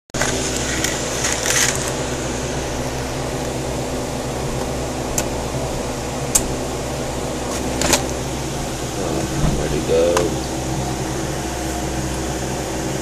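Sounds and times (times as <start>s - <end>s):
aquarium equipment humming: 0.2s - 13.0s.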